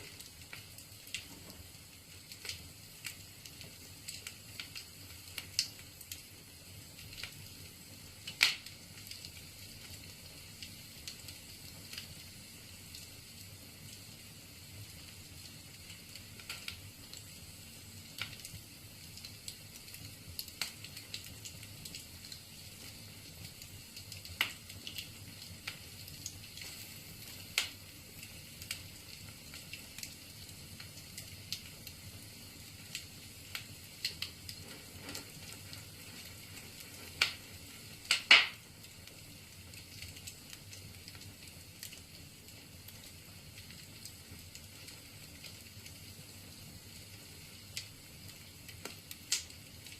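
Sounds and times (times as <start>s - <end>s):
faint steady hiss: 0.0s - 49.9s
wood fire crackling and popping: 0.0s - 49.9s.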